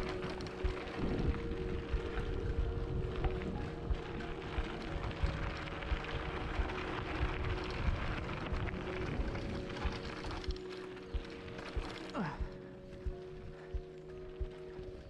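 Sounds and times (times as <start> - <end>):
bike tyres on gravel: 0.0 - 12.8.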